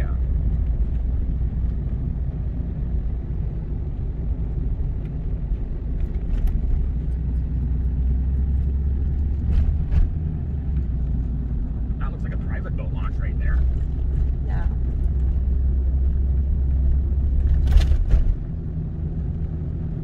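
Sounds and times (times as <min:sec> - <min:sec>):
pickup truck engine and road noise: 0:00.0 - 0:20.0.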